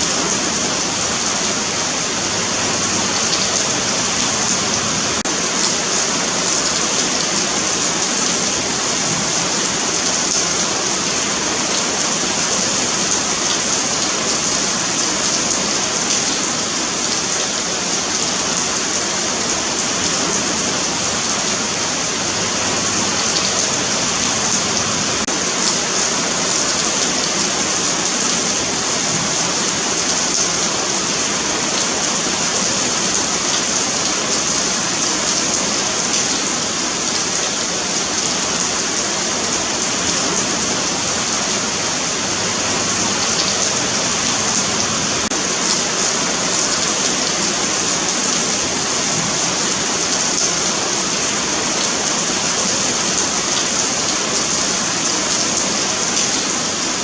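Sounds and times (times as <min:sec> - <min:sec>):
rain on pavement: 0:00.0 - 0:57.0.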